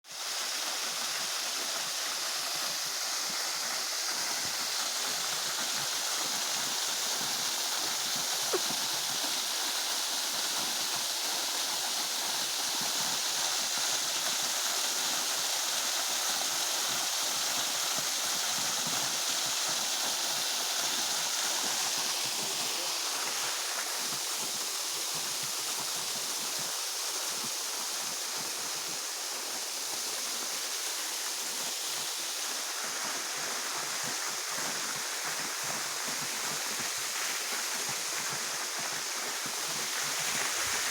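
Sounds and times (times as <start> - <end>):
waterfall rushing: 0.2 - 26.0, 27.8 - 40.9.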